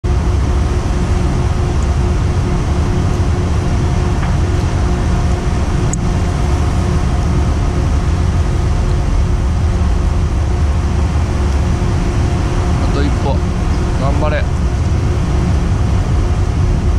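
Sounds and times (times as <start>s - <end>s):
ship engines rumbling: 0.1s - 16.9s.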